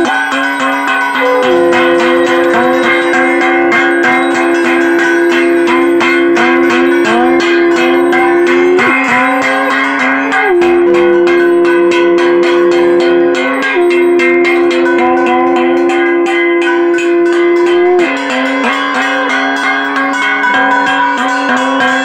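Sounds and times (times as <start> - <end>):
conch shell blasts: 0.0 - 22.0
hand bell ringing rapidly: 0.0 - 22.0
music playing: 1.2 - 22.0.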